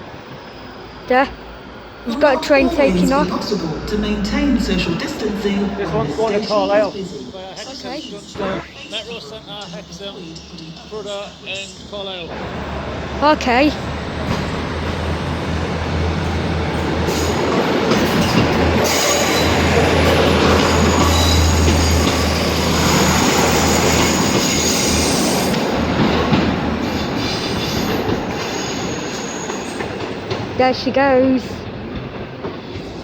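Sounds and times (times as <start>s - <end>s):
train hum and rolling wheels: 0.0s - 33.0s.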